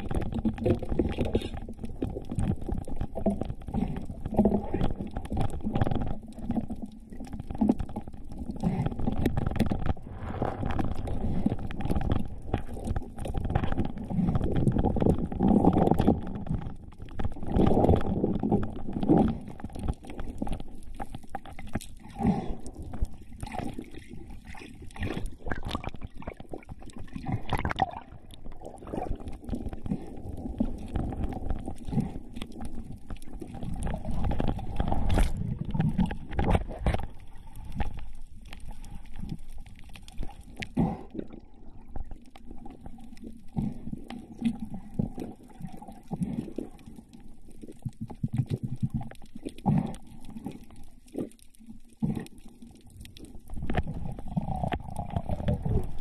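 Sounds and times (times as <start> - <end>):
underwater rushing and gurgling: 0.0 - 56.0.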